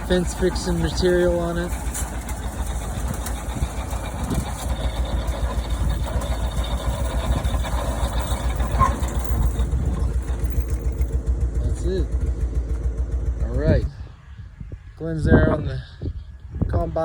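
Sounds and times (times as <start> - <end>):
truck engine running: 0.0 - 15.3.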